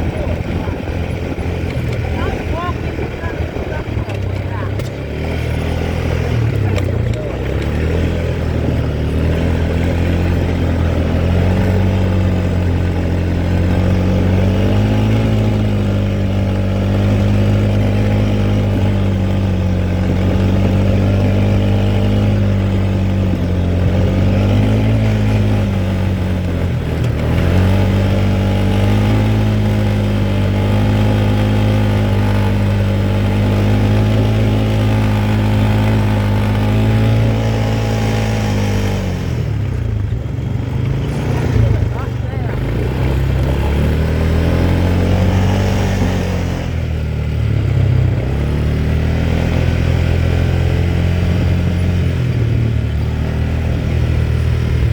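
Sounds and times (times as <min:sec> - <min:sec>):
quad bike engine running: 0:00.0 - 0:54.9.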